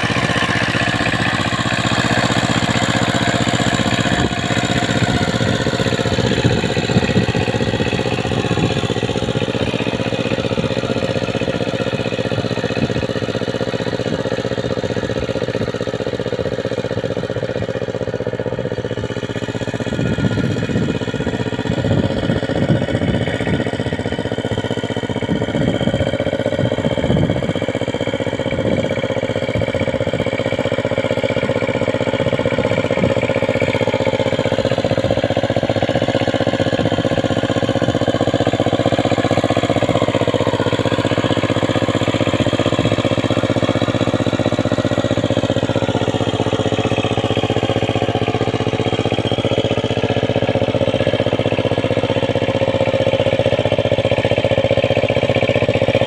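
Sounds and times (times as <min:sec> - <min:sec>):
diesel tiller engine running: 0:00.0 - 0:56.0.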